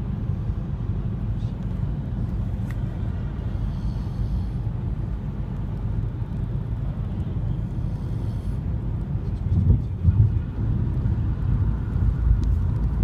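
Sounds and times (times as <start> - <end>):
road and engine rumble in car: 0.0 - 13.0.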